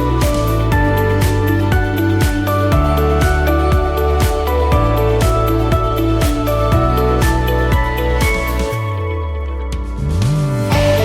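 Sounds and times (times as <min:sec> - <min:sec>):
background music with regular beat: 0:00.0 - 0:11.0.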